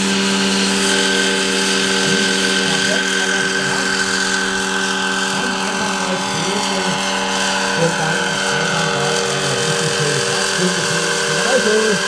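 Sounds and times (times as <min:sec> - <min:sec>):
electric motor high whine: 0:00.0 - 0:12.0
helicopter rotor rush: 0:00.0 - 0:12.0.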